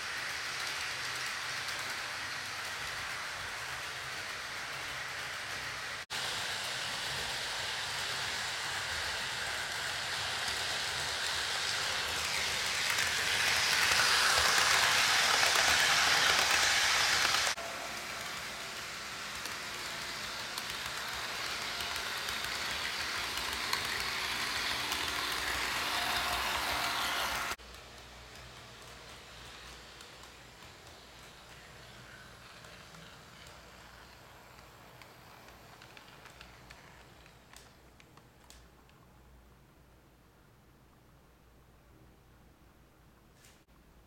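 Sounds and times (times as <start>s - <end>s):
model train rolling whir: 0.0s - 39.0s.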